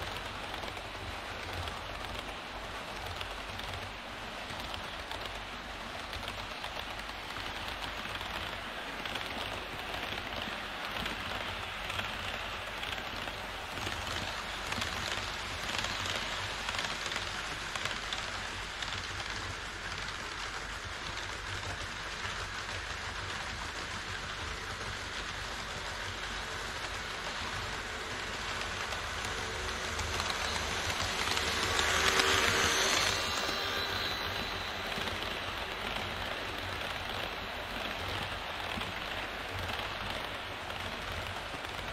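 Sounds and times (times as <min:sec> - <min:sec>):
model train wheels clattering: 0:00.0 - 0:41.9.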